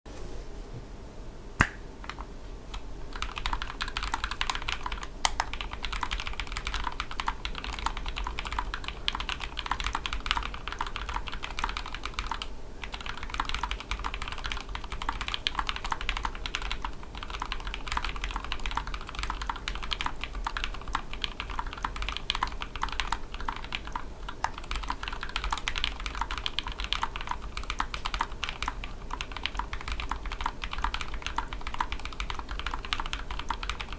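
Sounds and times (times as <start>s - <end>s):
mechanical keyboard typing: 3.1s - 33.9s.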